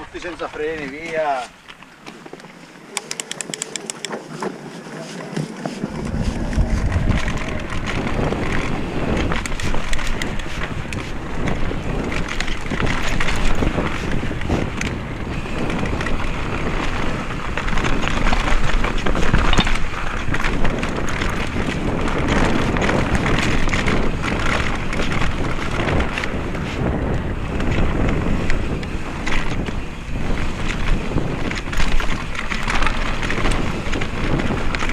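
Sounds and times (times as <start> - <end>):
tyres on dirt: 0.0 - 34.9
wind buffeting microphone: 2.2 - 34.9
bike knocks and rattles: 5.2 - 34.9.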